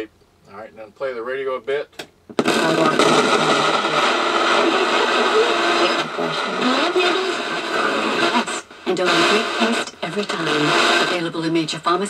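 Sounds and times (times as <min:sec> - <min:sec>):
faint radio broadcast: 0:00.0 - 0:12.0
radio static hiss: 0:00.0 - 0:12.0.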